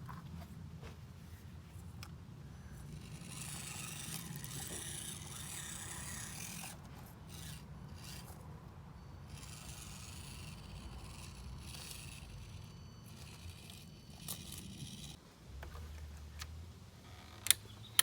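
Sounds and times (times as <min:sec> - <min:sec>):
rc vehicles scraping over rough ground: 0:01.2 - 0:18.0.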